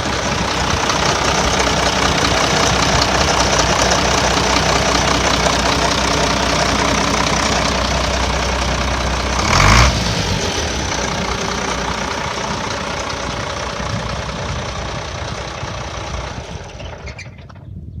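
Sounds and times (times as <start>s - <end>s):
tractor engine idling: 0.0s - 17.6s.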